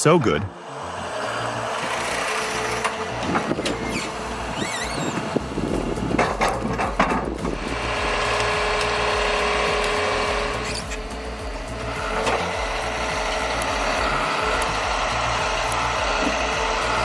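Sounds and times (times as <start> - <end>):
diesel engine running: 0.0 - 17.0
steady whine: 0.0 - 17.0.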